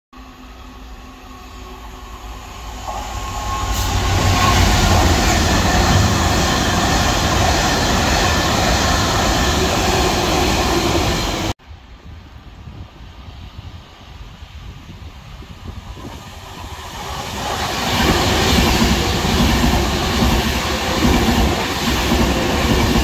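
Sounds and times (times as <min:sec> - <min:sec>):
freight train passing: 0:00.2 - 0:11.6, 0:12.4 - 0:23.0.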